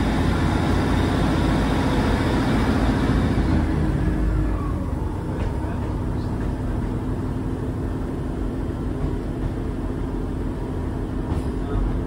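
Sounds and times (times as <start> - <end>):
train diesel engine droning: 0.0 - 12.0.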